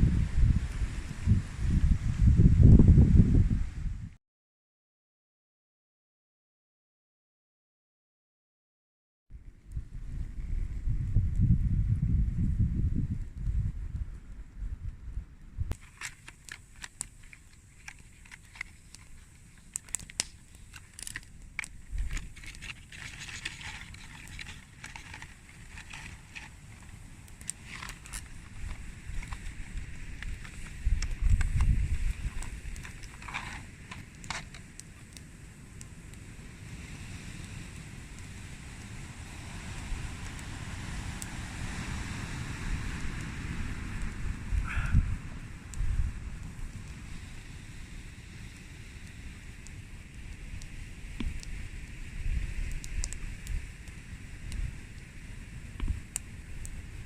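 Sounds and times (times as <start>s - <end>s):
campfire crackling: 0.0s - 3.5s, 9.4s - 57.0s
wind rumbling on microphone: 0.0s - 4.2s, 9.3s - 57.0s.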